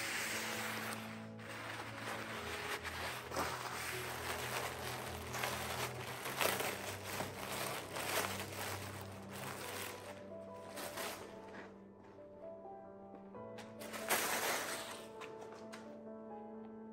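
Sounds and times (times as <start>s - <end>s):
rustling and crinkling handling noises: 0.0s - 12.2s, 13.6s - 15.9s.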